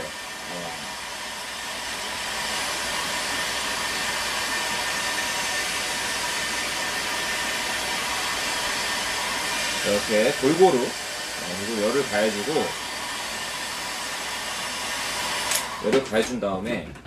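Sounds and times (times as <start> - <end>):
heat gun blowing hot air: 0.0 - 16.6.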